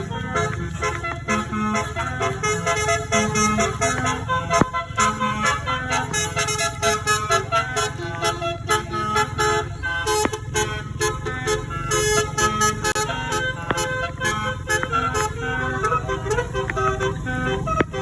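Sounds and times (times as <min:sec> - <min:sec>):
multi-tone air horn melody: 0:00.0 - 0:18.0
steady low rumble: 0:00.0 - 0:18.0.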